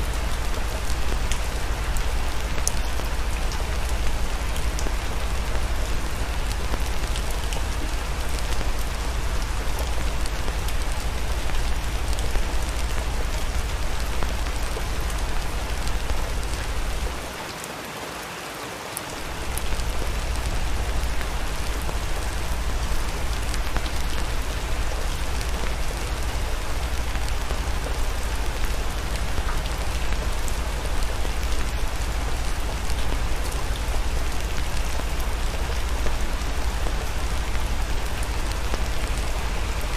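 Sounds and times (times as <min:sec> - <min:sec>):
hiss of falling rain: 0:00.0 - 0:39.9.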